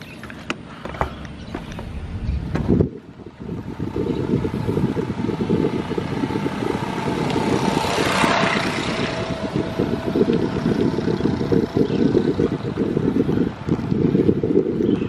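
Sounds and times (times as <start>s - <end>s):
wind buffeting microphone: 0.0s - 15.0s
passing motor vehicle: 1.0s - 14.7s.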